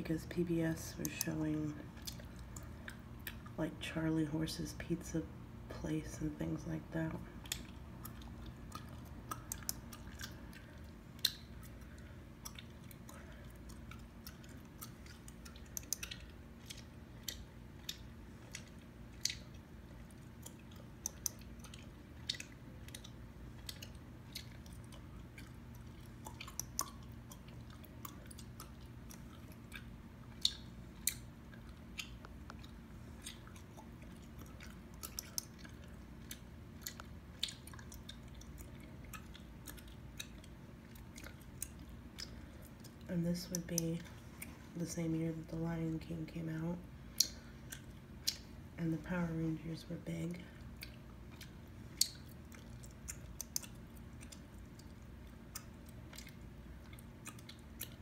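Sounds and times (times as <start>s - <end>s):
faint low hum: 0.0s - 58.0s
gum chewing smacks: 0.9s - 3.6s, 7.1s - 44.8s, 46.8s - 48.8s, 50.4s - 58.0s.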